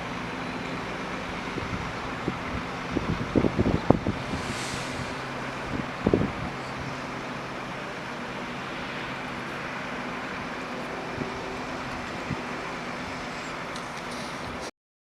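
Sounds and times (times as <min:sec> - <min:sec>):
low engine hum: 0:00.0 - 0:14.7
train rumbling: 0:00.0 - 0:14.7.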